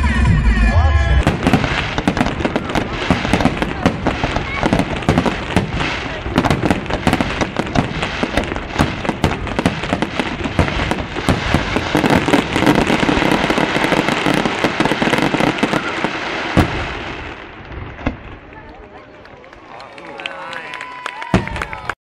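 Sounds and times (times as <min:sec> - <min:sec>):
fireworks bursting: 0:00.9 - 0:19.3
fireworks crackling: 0:01.0 - 0:22.0.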